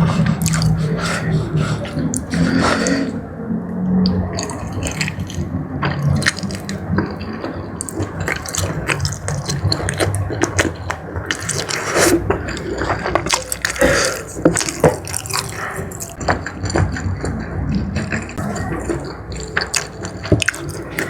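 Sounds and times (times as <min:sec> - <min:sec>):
wet chewing and mouth smacking: 0:00.0 - 0:03.2, 0:03.8 - 0:21.0
sticky clicks and slurps: 0:00.0 - 0:21.0.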